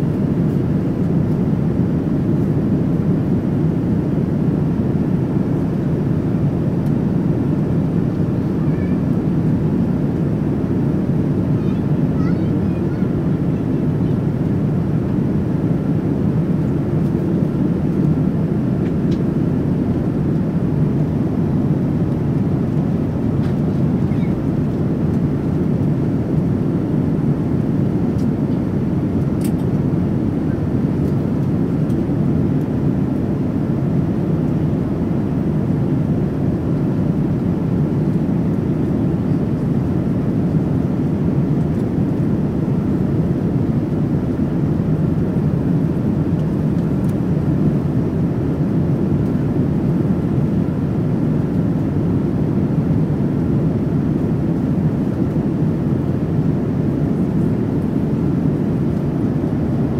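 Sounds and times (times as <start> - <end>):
airliner cabin roar: 0.0 - 59.9.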